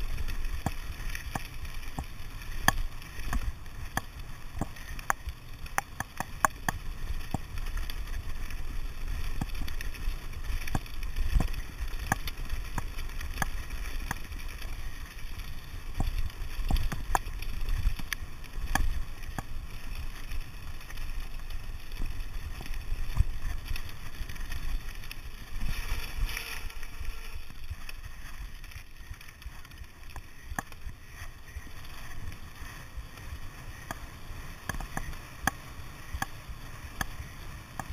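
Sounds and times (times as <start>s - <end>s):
bike rumbling over stony track: 0.0s - 37.9s
stones and bike clattering: 0.0s - 37.9s
tyres on tarmac: 0.0s - 37.9s.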